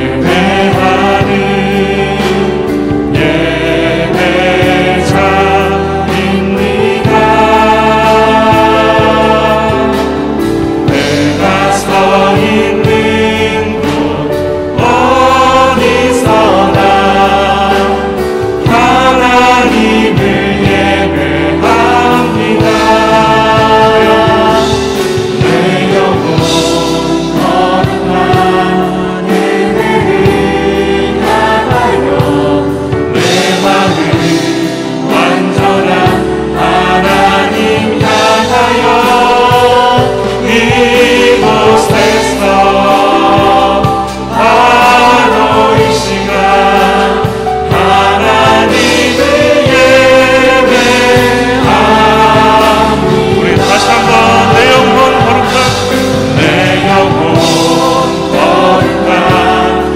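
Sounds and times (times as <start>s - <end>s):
drums: 0.0s - 59.9s
group singing worship song: 0.0s - 59.9s
keyboard: 0.0s - 59.9s.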